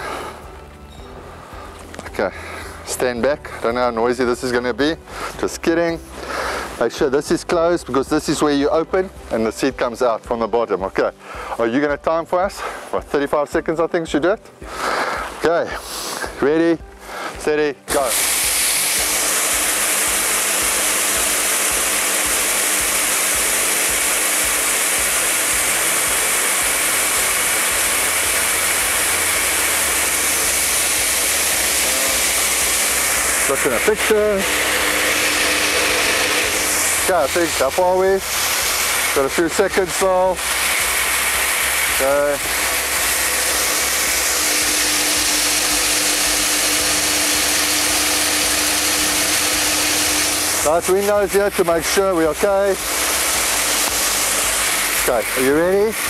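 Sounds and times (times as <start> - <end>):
seed treater whirring with pulse: 0.0 - 13.0, 14.6 - 56.0.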